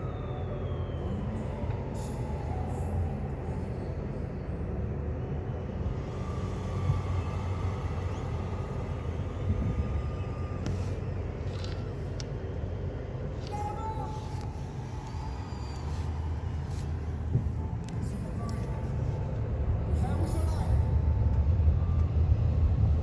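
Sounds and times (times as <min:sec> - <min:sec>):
vehicle rumbling: 0:00.0 - 0:23.0.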